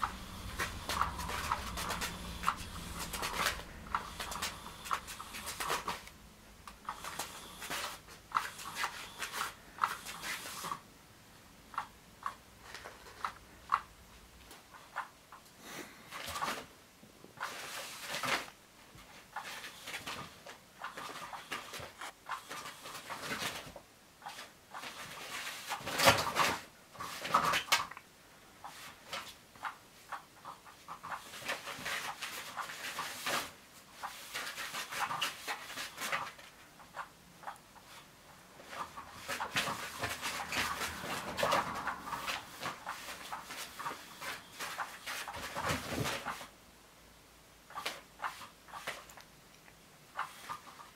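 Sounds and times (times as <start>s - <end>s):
cat toy fabric rustling and clicking: 0.0s - 10.8s, 17.4s - 28.0s, 28.6s - 46.6s, 47.7s - 50.9s.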